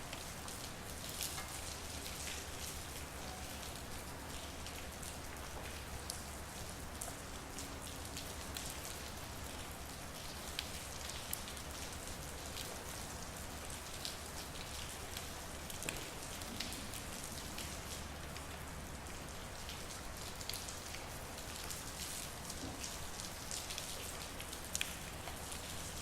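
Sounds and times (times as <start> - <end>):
rain hissing on a street: 0.0 - 26.0
raindrops ticking on surfaces: 0.0 - 26.0.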